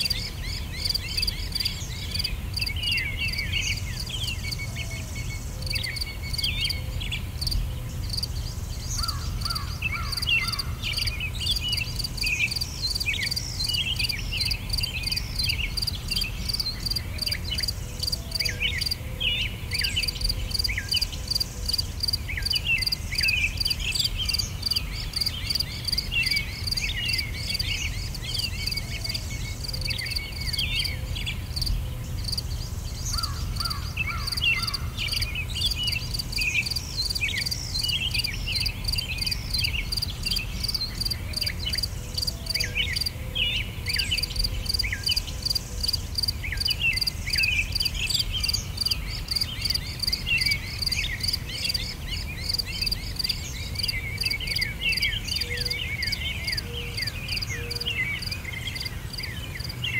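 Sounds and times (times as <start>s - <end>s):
bird chirps and twitters: 0.0s - 59.9s
insects chirping: 0.0s - 59.9s.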